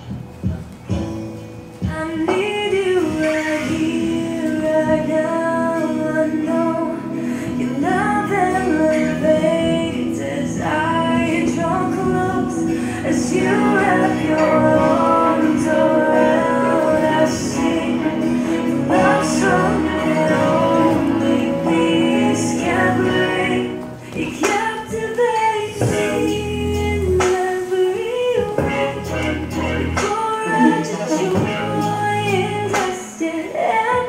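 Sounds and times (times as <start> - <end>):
recorded worship song: 0.0 - 34.0
person singing long held notes: 1.9 - 34.0.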